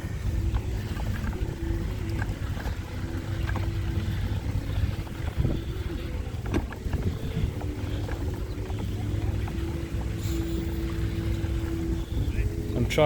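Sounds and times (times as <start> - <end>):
faint steady drone: 0.0 - 13.0
wind rumbling on microphone: 0.0 - 13.0.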